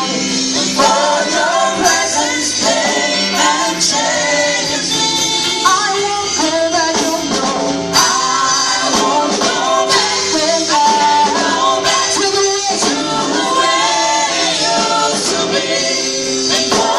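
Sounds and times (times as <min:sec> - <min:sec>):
drums: 0:00.0 - 0:16.9
gospel choir singing: 0:00.0 - 0:16.9
guitar: 0:00.0 - 0:16.9.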